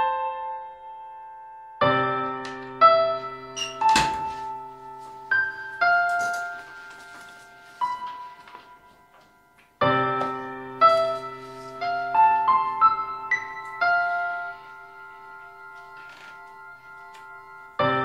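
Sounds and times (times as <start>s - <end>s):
slow soft solo piano: 0.0s - 18.0s.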